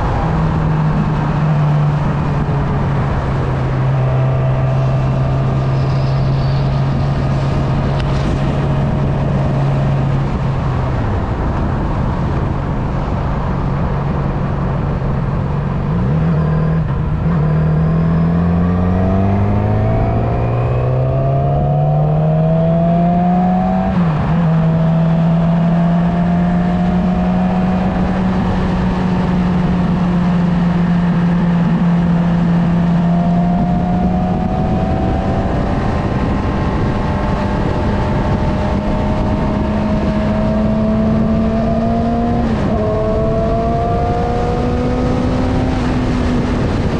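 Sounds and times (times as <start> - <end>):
motorcycle engine accelerating: 0.0 - 46.9
wind and road noise: 0.0 - 46.9.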